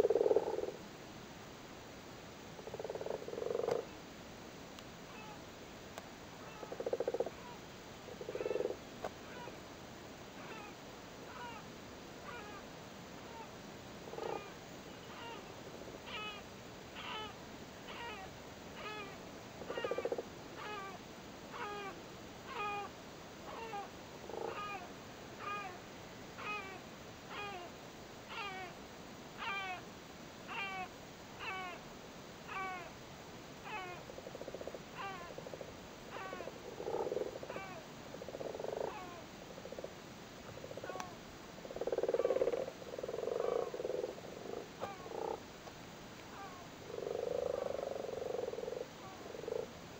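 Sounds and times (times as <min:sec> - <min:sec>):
frogs croaking: 0:00.0 - 0:00.9, 0:02.5 - 0:04.0, 0:06.4 - 0:09.6, 0:10.3 - 0:28.8, 0:29.4 - 0:33.0, 0:33.6 - 0:45.5, 0:46.2 - 0:49.8.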